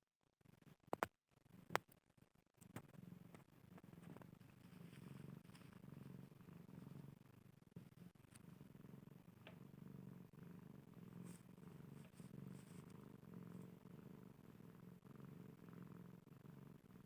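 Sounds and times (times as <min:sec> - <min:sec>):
cat purring: 0:00.4 - 0:17.0.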